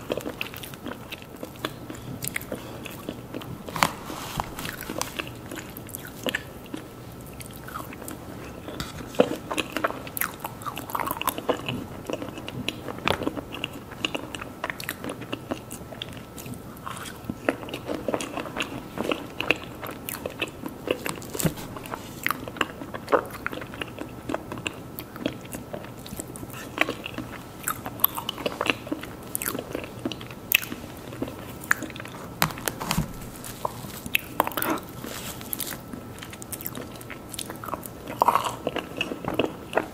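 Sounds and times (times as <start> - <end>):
biting and chewing: 0.0 - 39.9.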